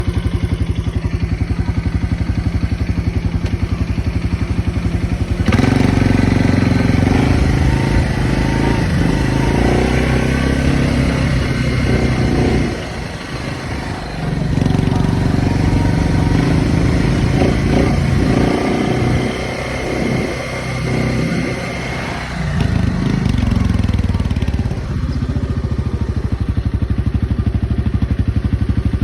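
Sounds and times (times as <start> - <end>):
engine idling and revving: 0.0 - 29.0.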